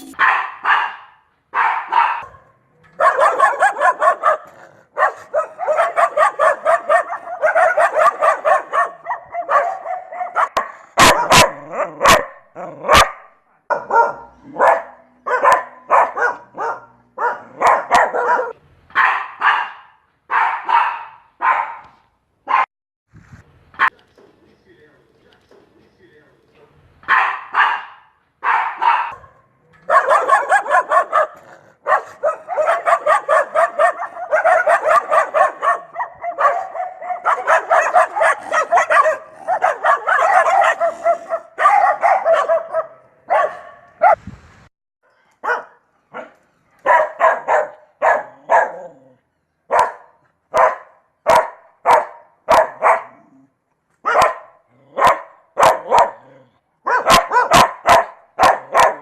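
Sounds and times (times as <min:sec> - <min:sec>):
dog barking: 0:00.0 - 0:22.7, 0:27.1 - 0:44.2, 0:45.4 - 0:53.4, 0:54.0 - 0:59.0.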